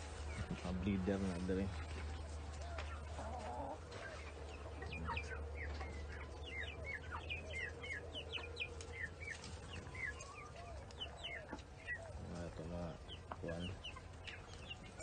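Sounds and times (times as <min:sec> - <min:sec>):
chickens chirping: 0:00.0 - 0:15.0.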